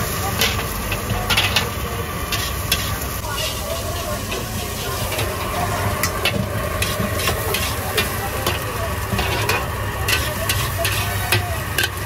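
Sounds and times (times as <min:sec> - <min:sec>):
food sizzling: 0:00.0 - 0:12.0
metal ladle clanking on wok: 0:00.3 - 0:05.4, 0:06.0 - 0:12.0.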